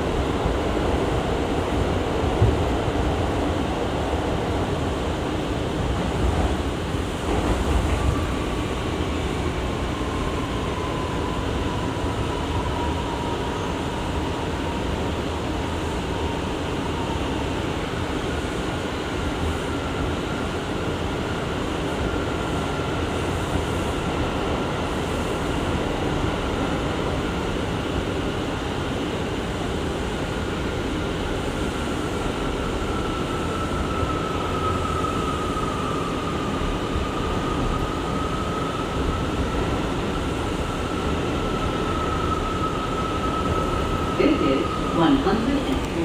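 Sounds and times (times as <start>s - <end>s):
wheels rumbling on rail: 0.0s - 46.0s.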